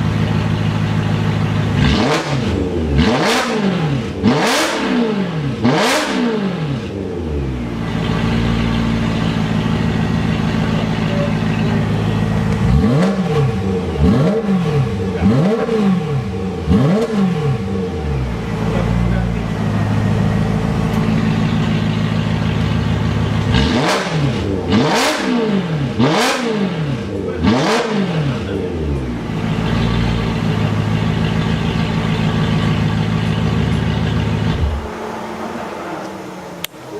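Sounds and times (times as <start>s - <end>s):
car engine idling: 0.0s - 36.9s
car engine revving: 0.0s - 36.9s.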